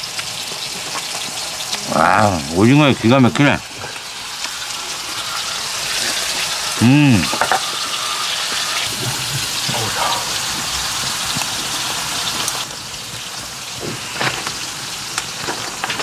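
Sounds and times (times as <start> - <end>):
rushing water hiss: 1.6 - 16.0.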